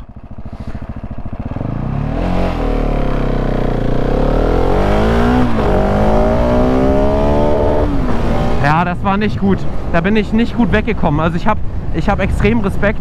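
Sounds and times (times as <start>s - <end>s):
motorcycle engine accelerating: 0.0s - 11.2s.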